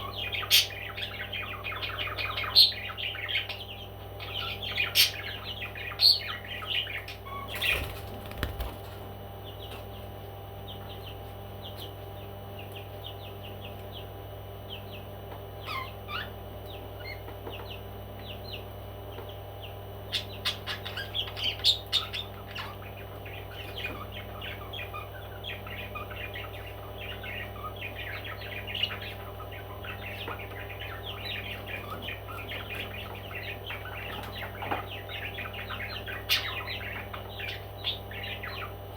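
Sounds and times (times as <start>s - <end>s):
parrots chirping: 0.0s - 8.7s, 14.7s - 38.8s
steady low hum: 0.0s - 38.9s.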